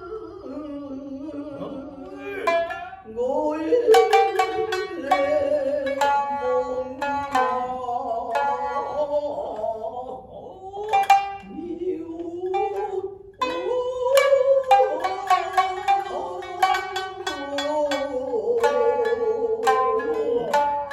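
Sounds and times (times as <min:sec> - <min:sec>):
shamisen plucking: 0:01.6 - 0:20.9.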